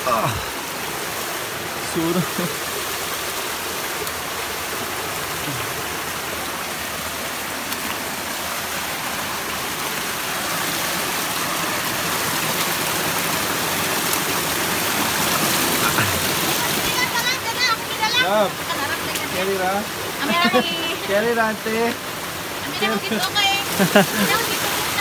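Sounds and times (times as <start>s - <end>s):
waterfall rushing water: 0.0s - 25.0s.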